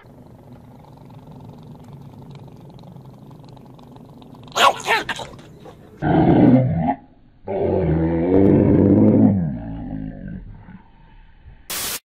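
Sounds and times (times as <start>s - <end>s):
small dog growling and snarling: 0.0s - 10.8s.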